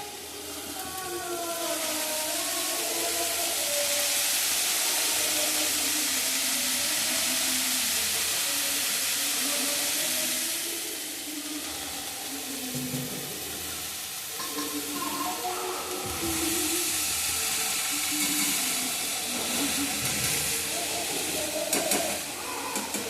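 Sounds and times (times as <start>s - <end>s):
food sizzling in oil: 0.0s - 23.0s.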